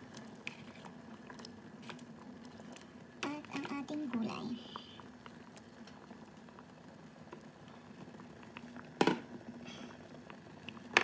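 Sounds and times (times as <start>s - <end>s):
broth bubbling: 0.0s - 11.0s
faint steady hum: 0.0s - 11.0s.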